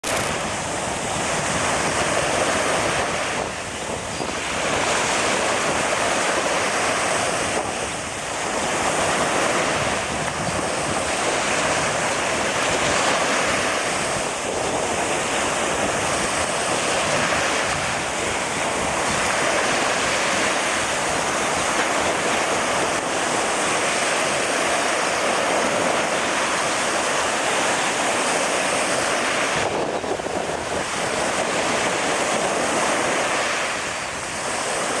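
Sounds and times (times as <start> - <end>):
ocean surf rushing: 0.0 - 35.0
wind buffeting microphone: 0.0 - 35.0.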